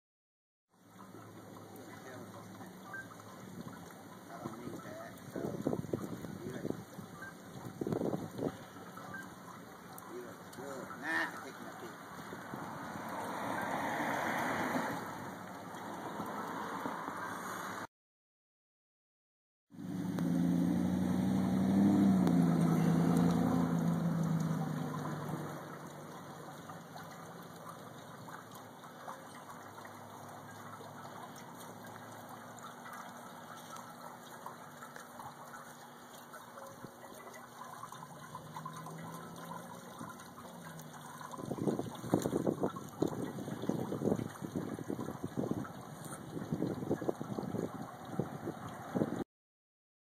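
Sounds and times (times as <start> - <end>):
fountain water trickling: 0.7 - 17.9, 19.8 - 49.2.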